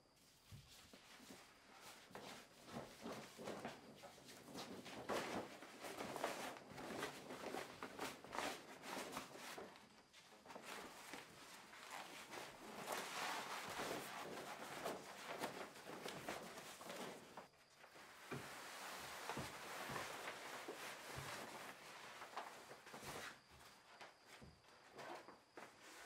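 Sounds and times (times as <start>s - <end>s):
plastic sheet rustling: 0.3s - 24.0s.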